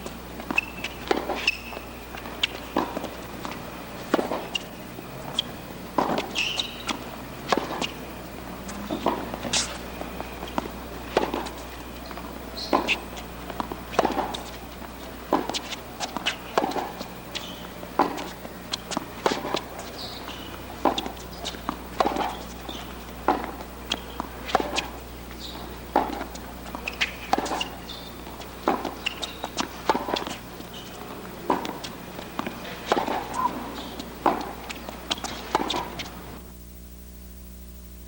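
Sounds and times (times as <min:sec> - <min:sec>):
racket striking tennis ball: 0:00.0 - 0:36.4
tennis ball bouncing on court: 0:00.0 - 0:36.4.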